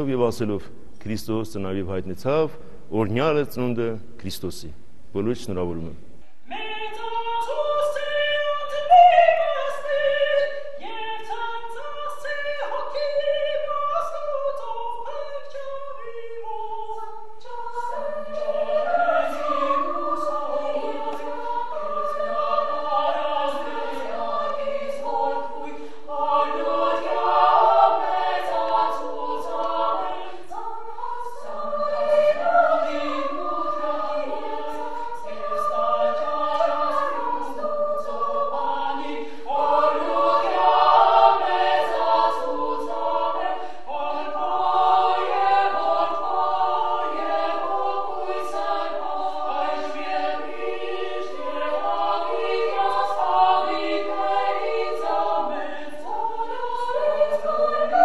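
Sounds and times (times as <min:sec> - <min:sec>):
women's choir singing: 0:06.5 - 0:58.0.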